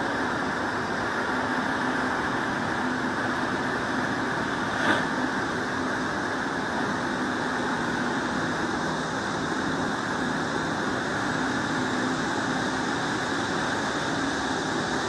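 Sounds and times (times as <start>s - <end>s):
heavy machine engine droning: 0.0s - 15.0s.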